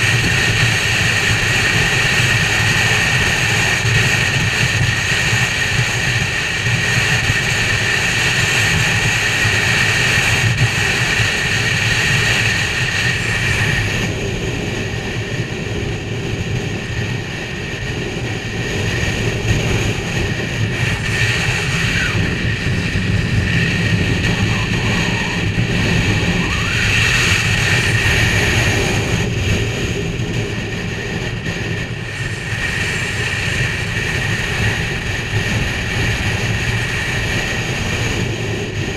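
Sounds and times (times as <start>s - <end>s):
motorcycle engine drone: 0.0s - 38.9s
wind noise: 0.0s - 38.9s.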